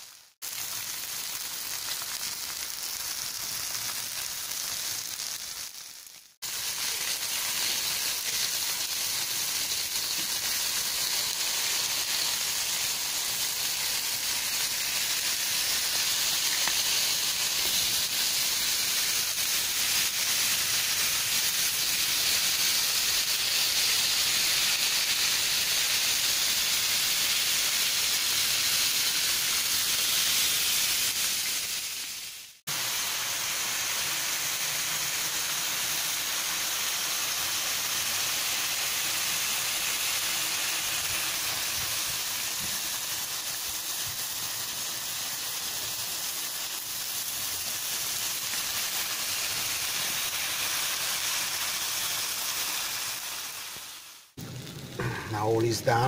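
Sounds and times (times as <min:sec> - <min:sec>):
steaks sizzling on a griddle: 0:00.0 - 0:55.0.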